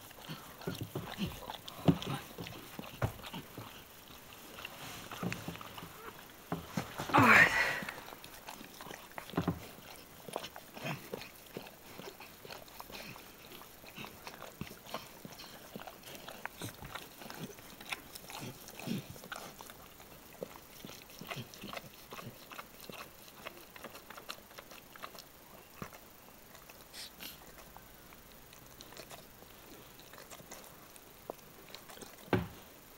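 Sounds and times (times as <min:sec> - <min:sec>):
dog licking puppy: 0:00.0 - 0:32.9.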